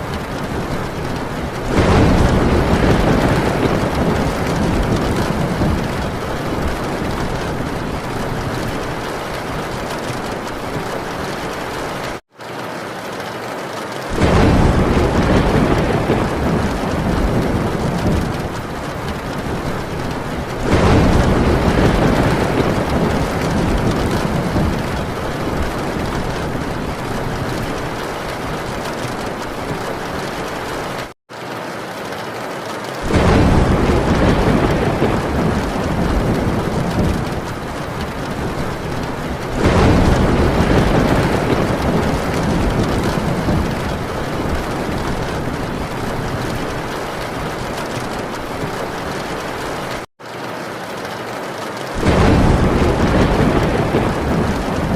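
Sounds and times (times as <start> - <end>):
rolling thunder: 0.0 - 12.2, 14.1 - 31.1, 33.0 - 50.1, 52.0 - 54.9
heavy rain on a tin roof: 0.0 - 54.9.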